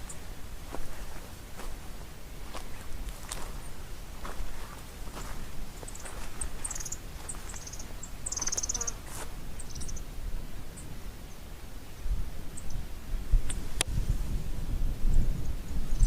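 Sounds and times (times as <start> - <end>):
songbirds chirping and trilling: 0.0 - 12.9.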